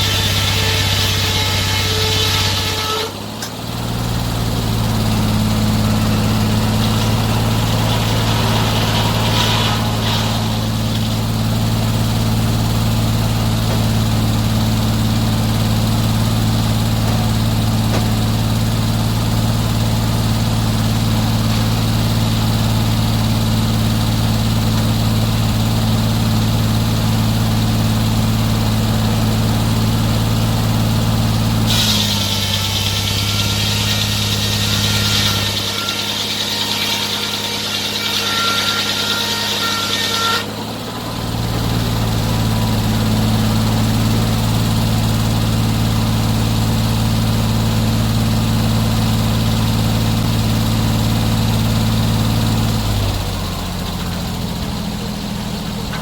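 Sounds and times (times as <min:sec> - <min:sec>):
sawmill engine humming: 0:00.0 - 0:56.0.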